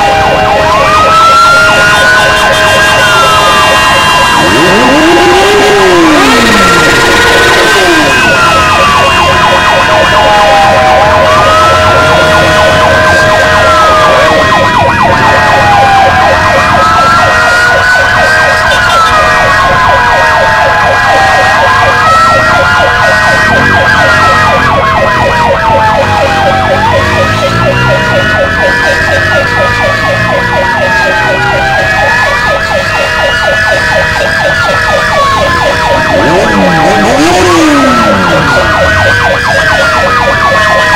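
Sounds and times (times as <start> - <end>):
ambulance siren wailing: 0.0 - 40.9.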